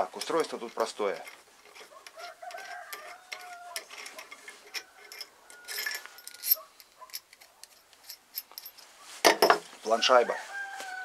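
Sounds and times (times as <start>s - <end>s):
light metallic clicks and clinks: 0.0s - 9.6s
scraping rustle: 0.0s - 11.0s.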